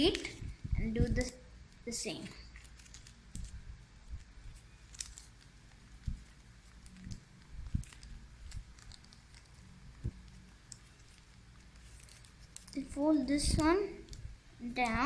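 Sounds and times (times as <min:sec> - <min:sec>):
paper crinkling and clicking: 0:02.2 - 0:15.0.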